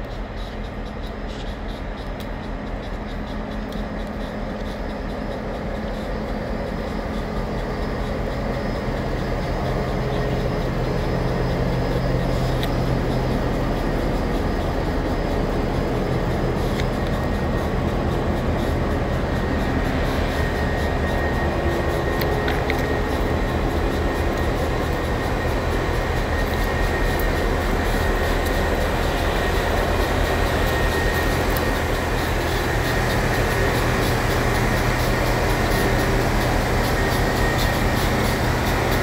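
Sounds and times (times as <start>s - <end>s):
diesel locomotives idling: 0.0s - 39.0s.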